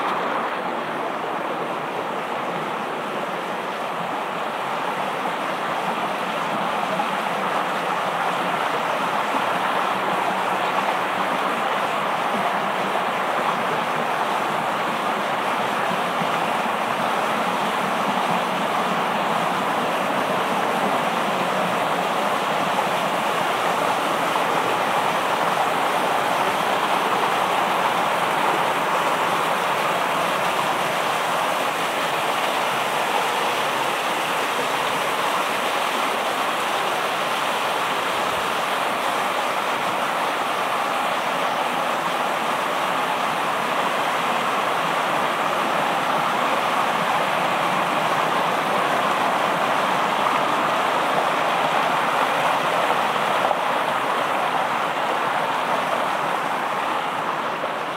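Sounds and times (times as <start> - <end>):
stream rushing over stones: 0.0 - 57.9.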